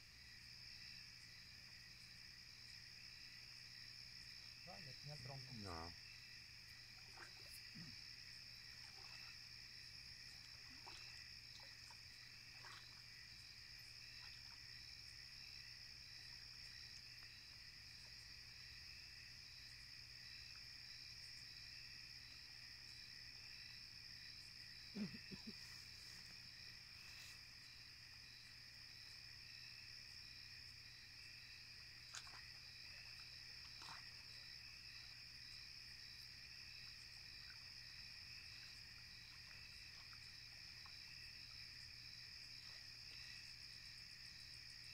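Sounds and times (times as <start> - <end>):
insects trilling at night: 0.0 - 44.9.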